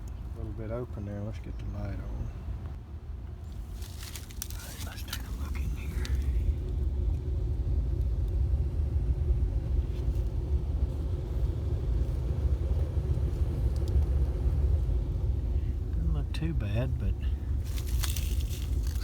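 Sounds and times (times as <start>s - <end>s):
faint hum: 0.0s - 19.0s
low rumble: 0.0s - 19.0s.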